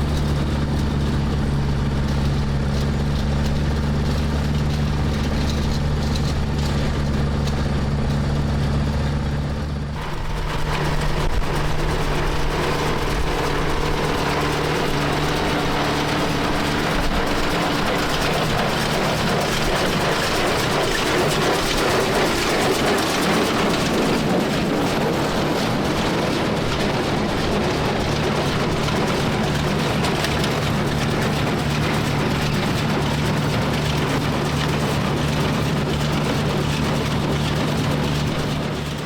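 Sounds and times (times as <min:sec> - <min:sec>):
hay baler machinery working: 0:00.0 - 0:39.0
tractor engine running: 0:00.0 - 0:39.0.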